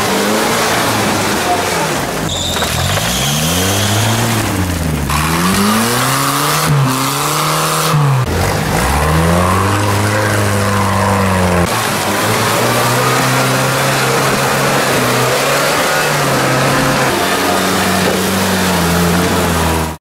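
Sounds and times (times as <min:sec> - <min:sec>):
off-road vehicle engines revving: 0:00.0 - 0:20.0.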